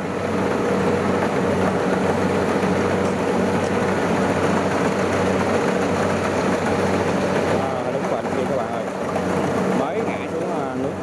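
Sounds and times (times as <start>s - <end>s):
combine harvester engine drone: 0.0s - 11.0s
machinery noise: 0.0s - 11.0s.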